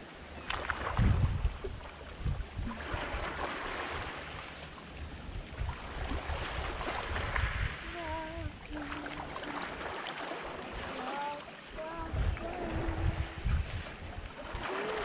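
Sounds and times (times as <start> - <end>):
wind rumbling on microphone: 0.3 - 15.0
sea washing against rocky shore: 0.6 - 15.0.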